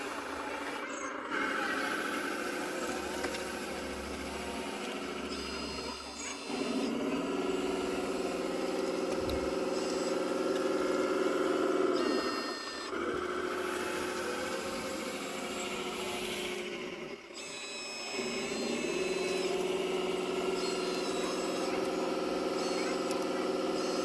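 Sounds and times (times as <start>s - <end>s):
electric motor whine: 0.0s - 24.0s.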